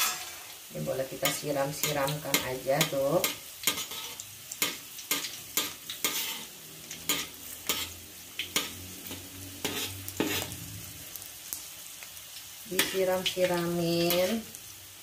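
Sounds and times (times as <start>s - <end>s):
sharp oil crackles: 0.0s - 15.0s
shrimp sizzling in hot oil: 0.0s - 15.0s.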